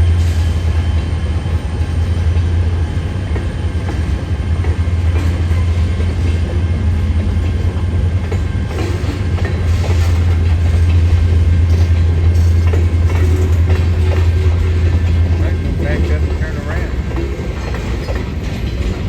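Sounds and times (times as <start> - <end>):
train rumbling by: 0.0 - 19.0.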